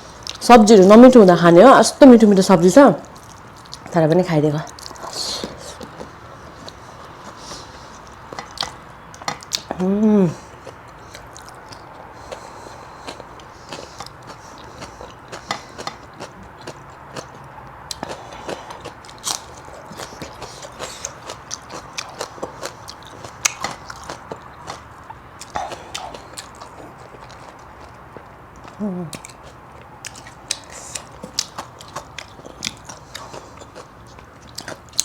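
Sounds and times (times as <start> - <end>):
chewing and crunching food: 3.0 - 4.0, 4.6 - 9.8, 10.4 - 35.0.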